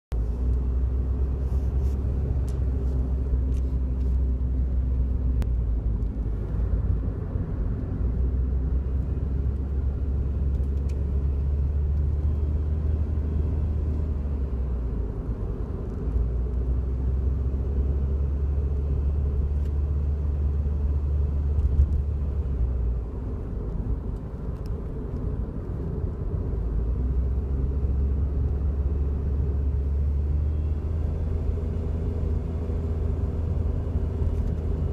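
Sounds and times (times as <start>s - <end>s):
road and engine rumble: 0.0s - 34.9s.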